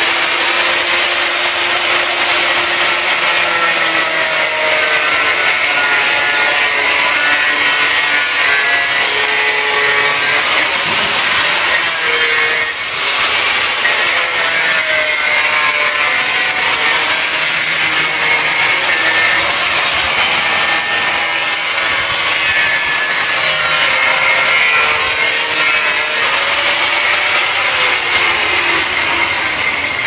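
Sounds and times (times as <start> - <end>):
angle grinder grinding foam: 0.0 - 30.0.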